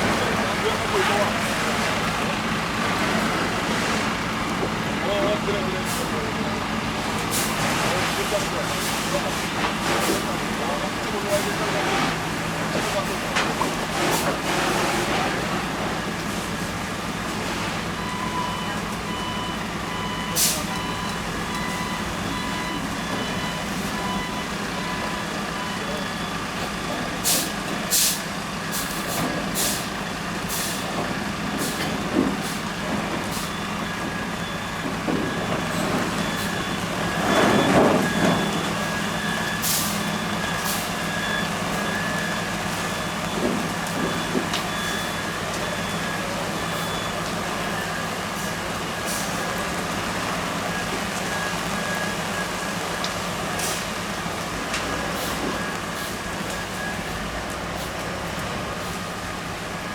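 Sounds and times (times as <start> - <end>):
heavy vehicle engine hum: 0.0 - 59.9.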